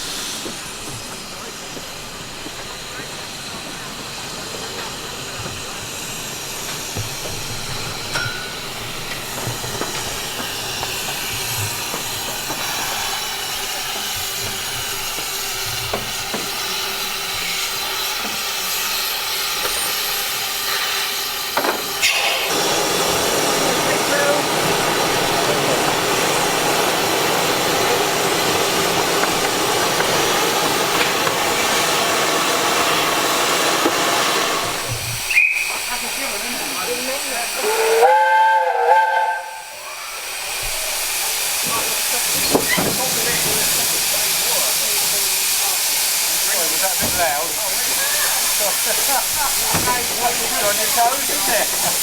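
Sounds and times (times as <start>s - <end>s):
steam locomotive hissing: 0.0s - 52.0s.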